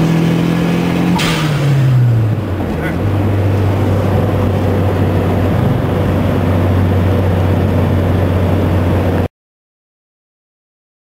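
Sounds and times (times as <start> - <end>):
car engine droning: 0.0 - 9.3.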